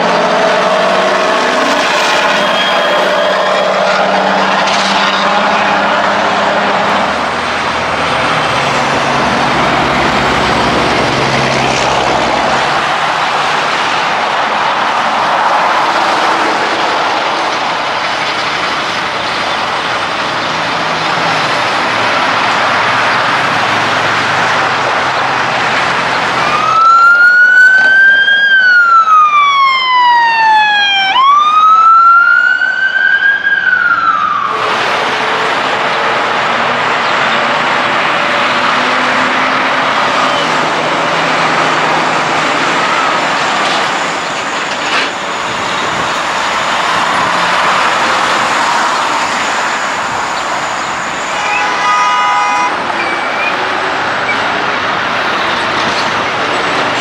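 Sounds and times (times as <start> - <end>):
emergency siren wailing: 0.0 - 57.0
highway traffic rumble: 0.0 - 57.0.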